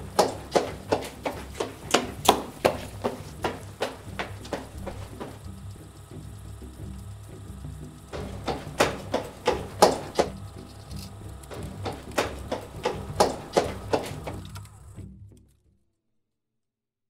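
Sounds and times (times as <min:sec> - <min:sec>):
low steady drone: 0:00.0 - 0:15.5.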